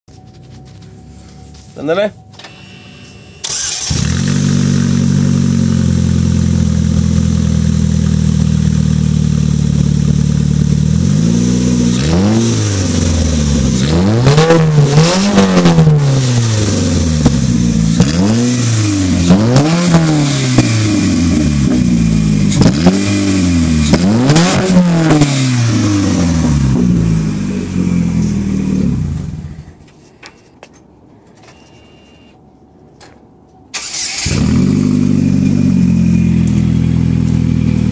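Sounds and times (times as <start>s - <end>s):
car engine idling and revving: 3.4s - 29.7s, 33.8s - 37.9s.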